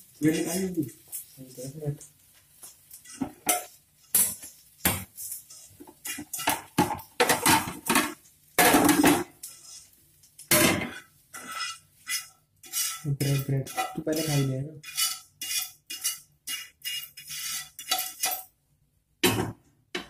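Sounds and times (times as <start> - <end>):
spatula scraping and knocking on pan: 2.5 - 18.5, 19.2 - 20.0.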